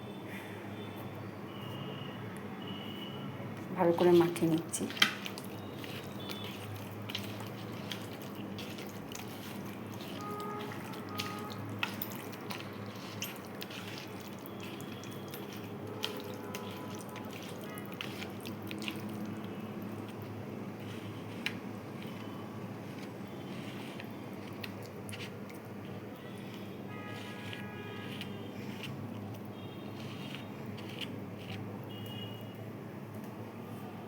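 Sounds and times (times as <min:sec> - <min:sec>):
wet squelching of meat: 0:04.0 - 0:31.6.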